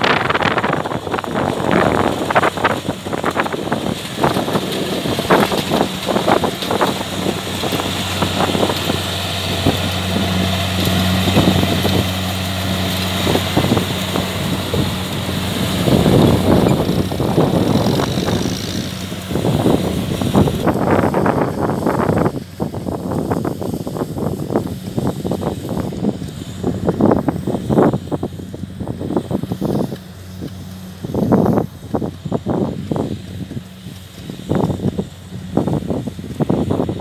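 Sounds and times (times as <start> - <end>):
farm machine engine running: 0.0 - 37.0
wind buffeting microphone: 0.0 - 37.0.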